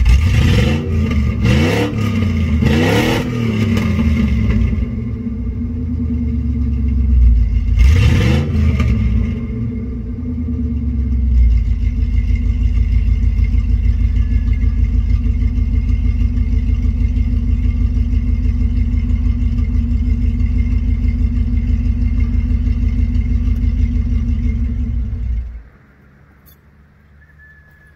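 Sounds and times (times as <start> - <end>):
misfiring engine idling: 0.0 - 25.8
engine revving: 0.0 - 26.6.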